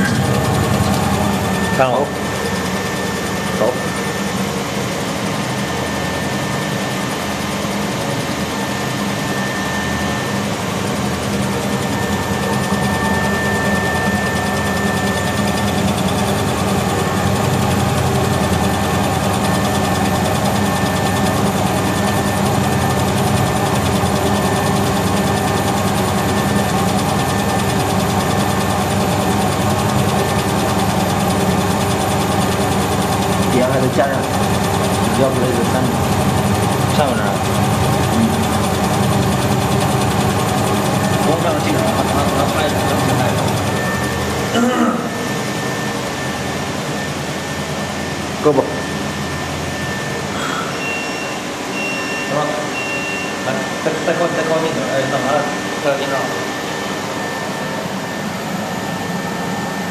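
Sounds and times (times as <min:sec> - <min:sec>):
high whine: 0:00.0 - 0:59.9
laser engraver humming: 0:00.0 - 0:59.9.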